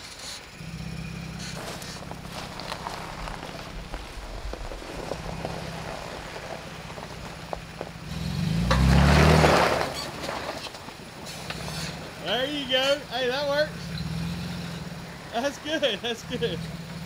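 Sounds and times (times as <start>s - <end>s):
engine running and revving: 0.0s - 17.0s.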